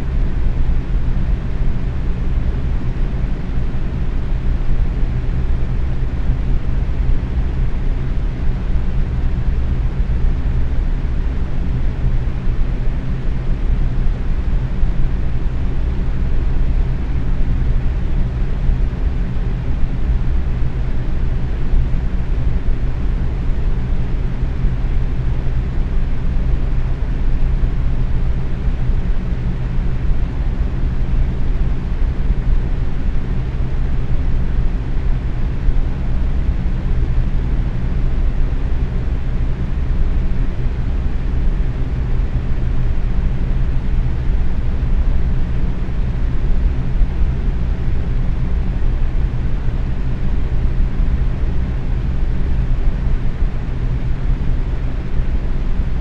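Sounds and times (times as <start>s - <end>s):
box fan running: 0.0s - 56.0s.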